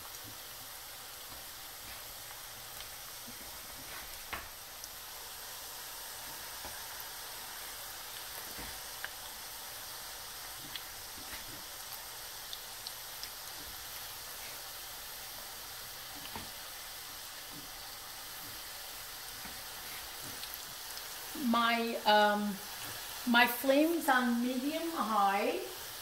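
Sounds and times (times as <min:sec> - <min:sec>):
dough sizzling in hot oil: 0:00.0 - 0:26.0.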